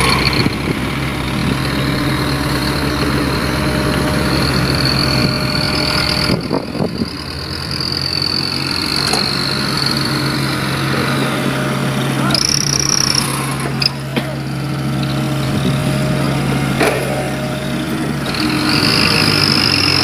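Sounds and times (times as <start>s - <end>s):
dump truck engine running: 0.0s - 20.0s
high whine: 0.0s - 20.0s.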